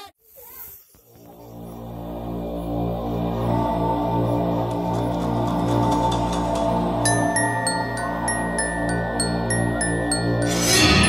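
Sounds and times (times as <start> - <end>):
voices: 0.0 - 10.7
low droning eerie music: 1.3 - 11.0.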